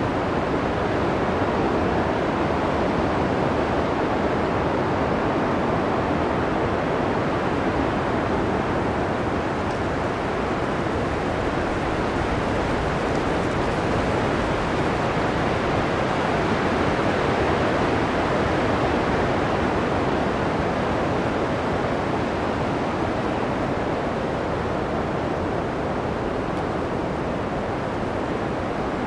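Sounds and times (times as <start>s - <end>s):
strong blizzard wind blowing: 0.0s - 29.0s.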